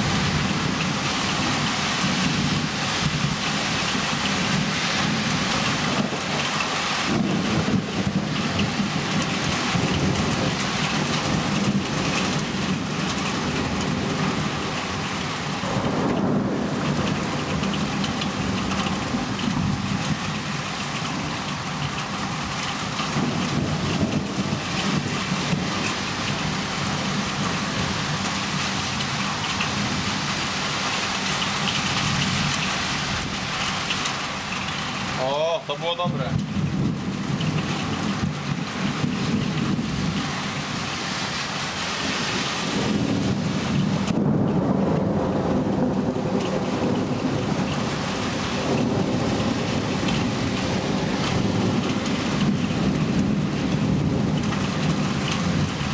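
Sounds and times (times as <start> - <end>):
thunder rolling: 0.0 - 30.6, 35.9 - 55.9
heavy rain pouring: 0.0 - 55.9.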